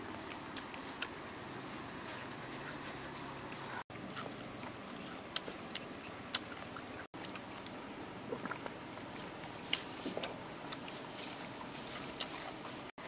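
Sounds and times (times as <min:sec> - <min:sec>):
puppies chewing wetly: 0:00.0 - 0:13.0.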